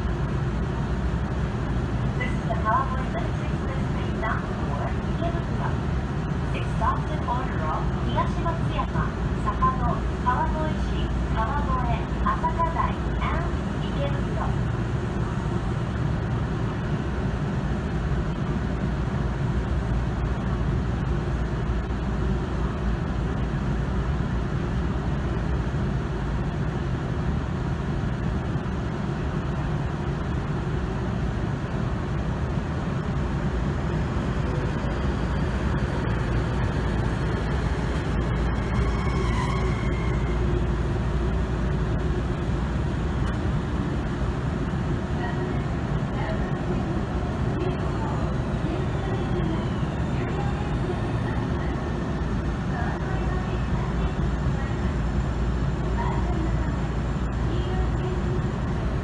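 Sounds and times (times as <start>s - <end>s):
stationary electric train humming: 0.0s - 59.0s.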